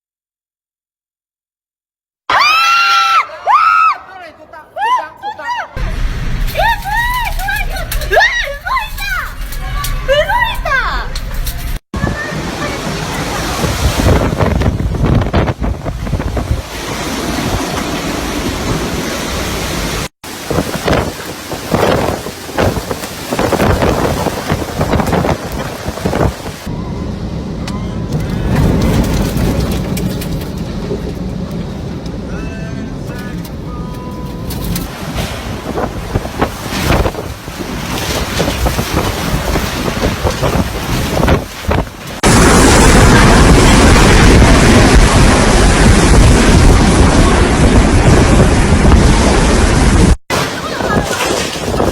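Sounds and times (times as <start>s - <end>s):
wind buffeting microphone: 5.8s - 51.9s.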